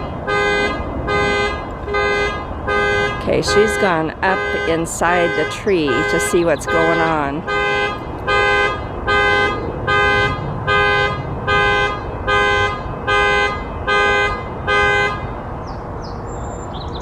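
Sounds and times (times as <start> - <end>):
car alarm horn honks: 0.2 - 15.4.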